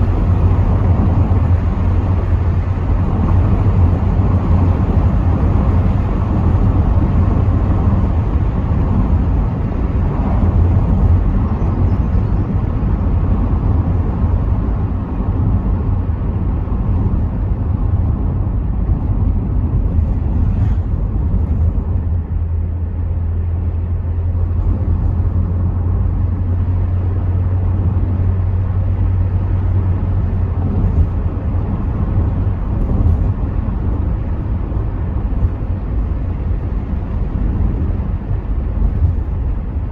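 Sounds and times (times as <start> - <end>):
car engine drone: 0.0 - 39.9
low hum: 0.0 - 39.9
tyres on the road: 0.0 - 39.9.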